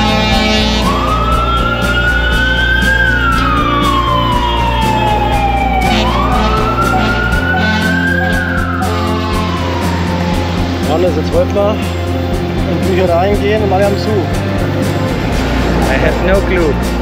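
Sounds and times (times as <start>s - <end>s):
emergency vehicle siren wailing: 0.0s - 17.0s.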